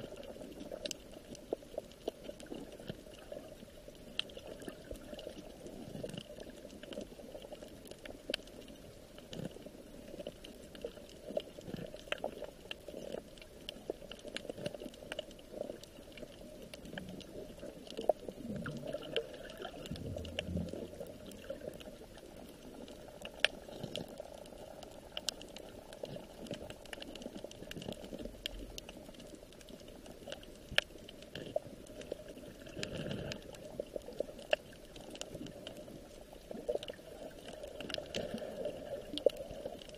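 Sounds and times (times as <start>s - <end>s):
small clicks and ticks: 0.0s - 39.9s
water bubbling and trickling: 0.0s - 39.9s.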